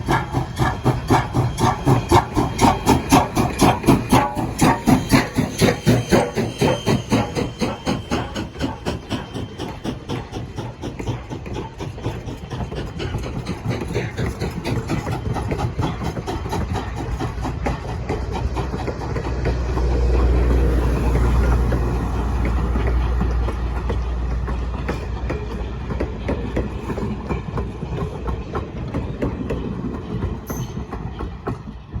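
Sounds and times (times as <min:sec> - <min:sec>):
train rumble: 0:00.0 - 0:32.0
wheels clicking on rails: 0:00.0 - 0:32.0.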